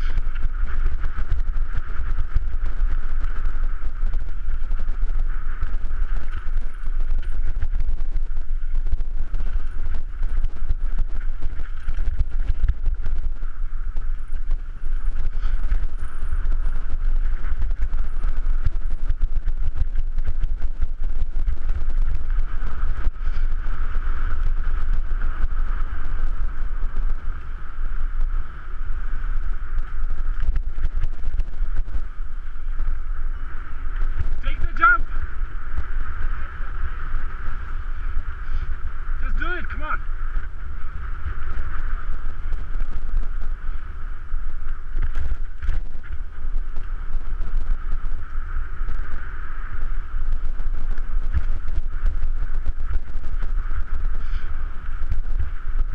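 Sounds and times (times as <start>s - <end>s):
bike rattling over bumps: 0.0s - 55.9s
wind on microphone: 0.0s - 55.9s.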